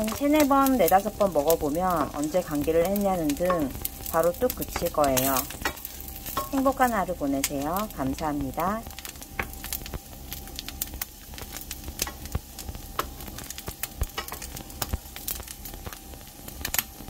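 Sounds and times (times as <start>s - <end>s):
nuts sizzling in oil: 0.0s - 17.0s
oil popping and crackling: 0.0s - 17.0s.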